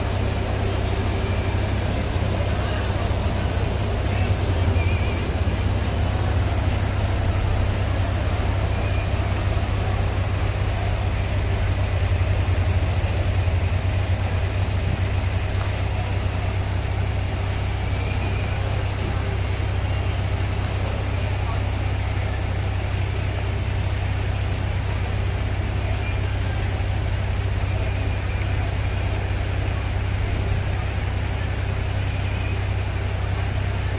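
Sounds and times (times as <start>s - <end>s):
diesel truck engine rumbling: 0.0s - 33.9s.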